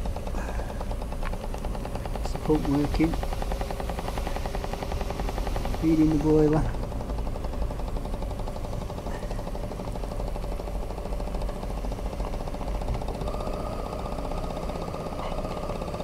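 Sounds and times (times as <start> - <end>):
steam engine running: 0.0 - 16.0.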